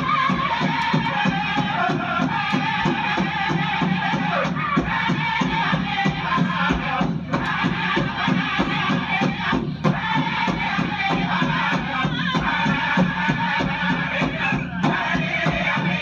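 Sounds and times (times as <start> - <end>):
group chanting singing: 0.0 - 16.0
steady drumbeat: 0.0 - 16.0.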